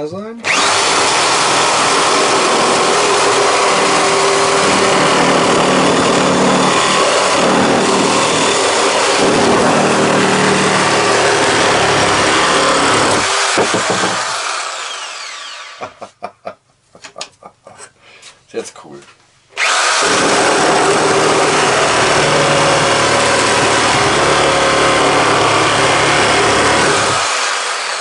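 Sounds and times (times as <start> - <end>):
reciprocating saw cutting wood: 0.4 - 16.0, 19.6 - 28.0.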